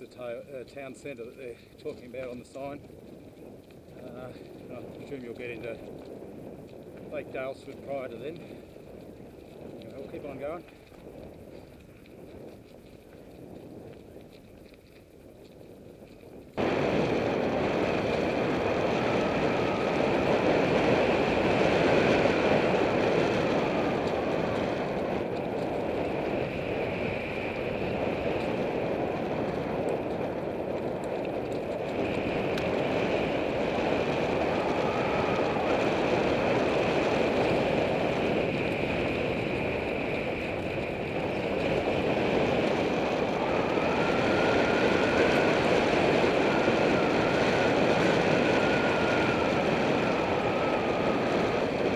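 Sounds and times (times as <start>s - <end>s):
bike tyres rolling on trail: 0.0s - 51.9s.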